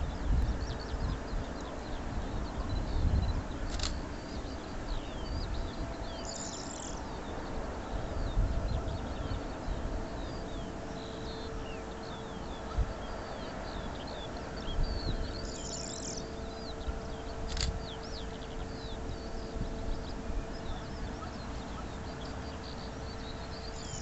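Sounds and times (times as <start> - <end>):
faint steady hum: 0.0 - 24.0
songbirds chirping: 0.0 - 24.0
wind buffeting microphone: 0.0 - 24.0.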